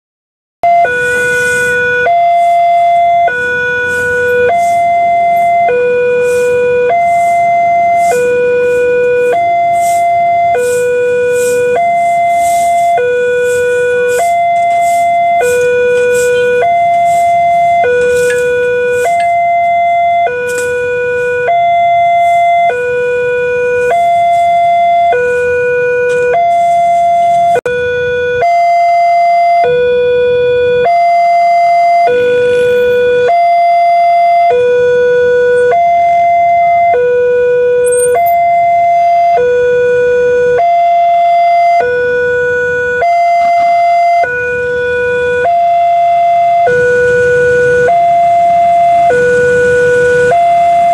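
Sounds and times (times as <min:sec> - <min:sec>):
level-crossing two-tone alarm: 0:00.6 - 0:50.9.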